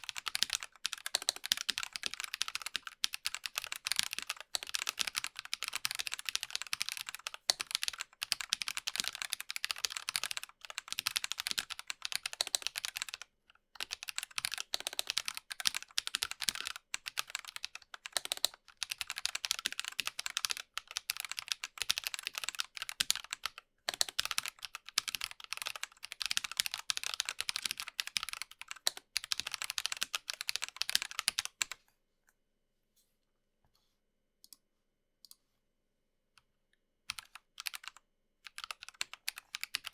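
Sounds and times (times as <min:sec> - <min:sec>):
fast mechanical keyboard typing: 0:00.0 - 0:31.7, 0:37.1 - 0:39.9.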